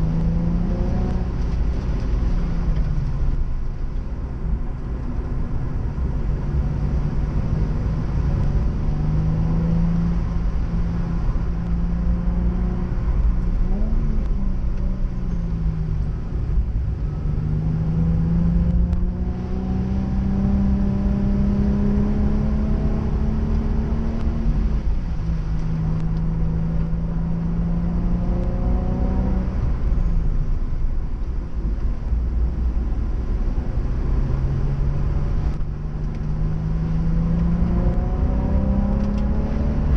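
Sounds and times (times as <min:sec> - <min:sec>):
car engine revving: 0:00.0 - 0:03.7, 0:04.4 - 0:39.9.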